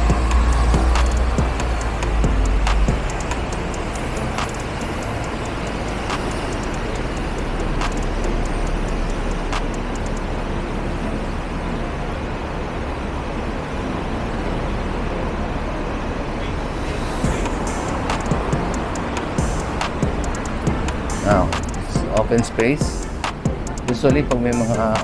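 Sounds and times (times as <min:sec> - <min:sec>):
road traffic noise: 0:00.0 - 0:25.0.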